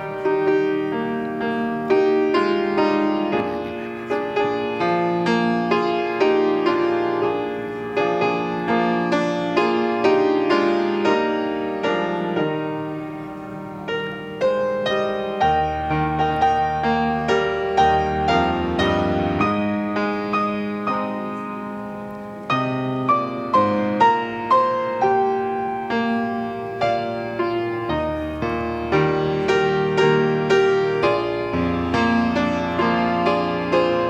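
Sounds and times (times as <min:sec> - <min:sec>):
piano playing soft chords: 0:00.0 - 0:34.0.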